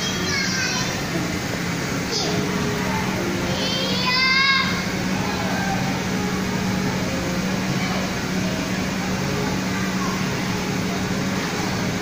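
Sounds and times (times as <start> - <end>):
distant children's voices: 0.0 - 12.0
mechanical hum and hiss: 0.0 - 12.0.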